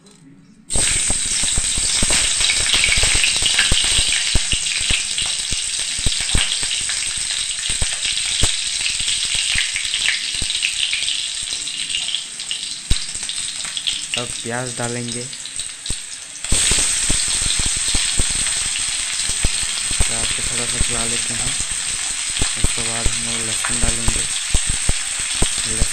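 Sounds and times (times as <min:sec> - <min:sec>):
chillies sizzling in hot oil: 0:00.7 - 0:25.9.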